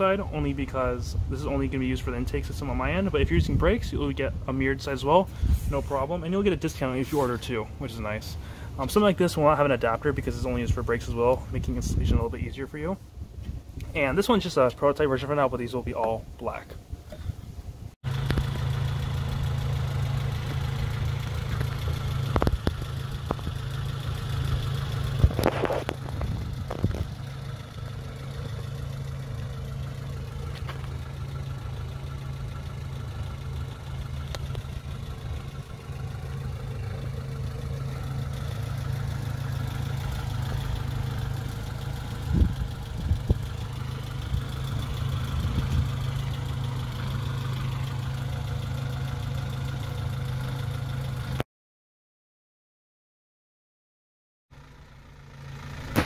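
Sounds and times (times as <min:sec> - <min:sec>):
car engine idling: 0:00.0 - 0:51.4, 0:54.6 - 0:56.0.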